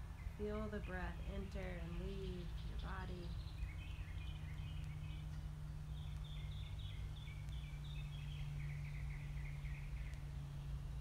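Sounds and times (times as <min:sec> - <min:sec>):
songbird singing: 0:00.0 - 0:11.0
steady low hum: 0:00.0 - 0:11.0.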